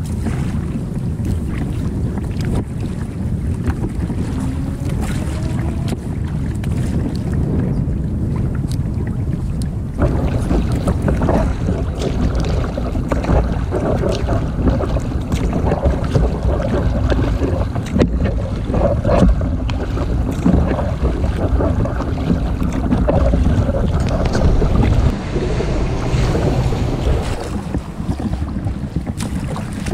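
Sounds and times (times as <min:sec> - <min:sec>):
paddle splashing water: 0:00.0 - 0:29.9
wind buffeting microphone: 0:00.0 - 0:29.9.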